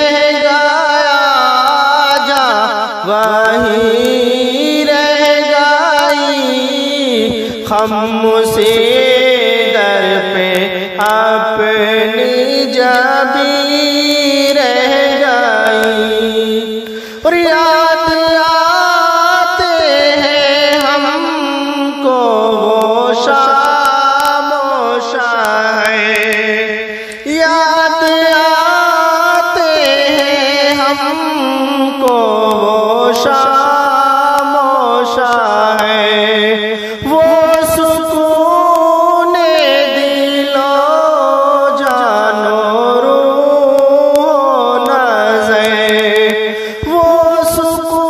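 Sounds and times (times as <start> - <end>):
man singing devotional chant: 0.0 - 48.0.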